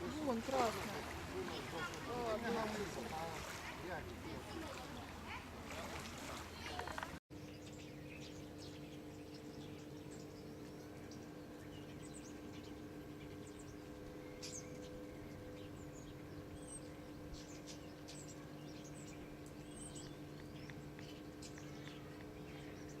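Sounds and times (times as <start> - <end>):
birds chirping: 0.0 - 23.0
low electrical hum: 0.0 - 23.0.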